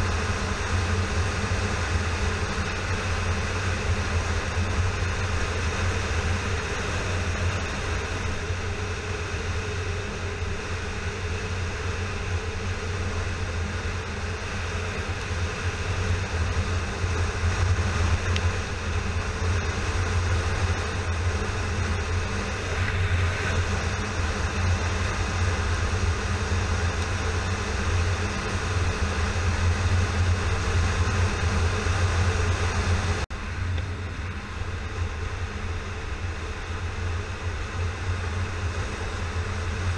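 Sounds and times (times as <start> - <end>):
road noise: 0.0 - 39.9
wind noise: 0.0 - 39.9.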